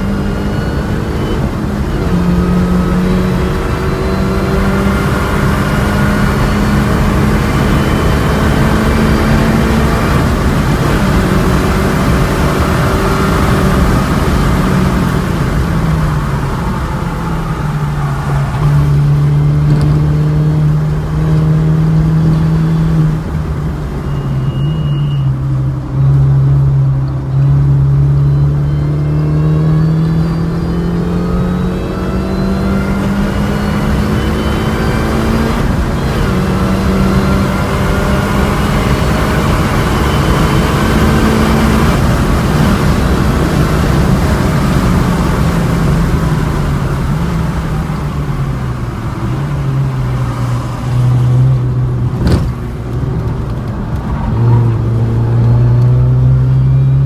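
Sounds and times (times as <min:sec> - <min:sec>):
road and wind noise: 0:00.0 - 0:57.0
supercharged car engine revving: 0:00.0 - 0:57.0.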